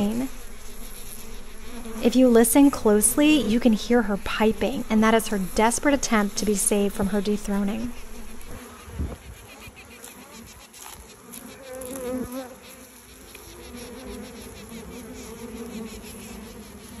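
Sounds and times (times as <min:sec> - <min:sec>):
bees buzzing: 0:00.0 - 0:17.0
queen bee piping: 0:00.0 - 0:17.0.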